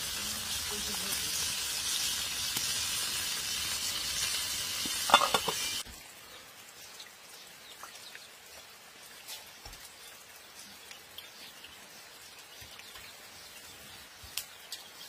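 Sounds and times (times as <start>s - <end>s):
rain dripping into a puddle: 0.0s - 5.1s, 5.8s - 15.0s
oil sizzling as fish fry: 0.0s - 15.0s.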